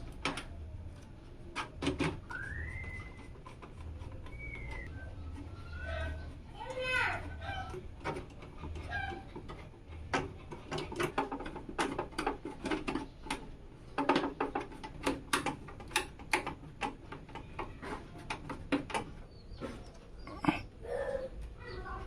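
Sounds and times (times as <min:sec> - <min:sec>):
computer parts clicking and tapping: 0:00.0 - 0:05.5, 0:06.2 - 0:20.0.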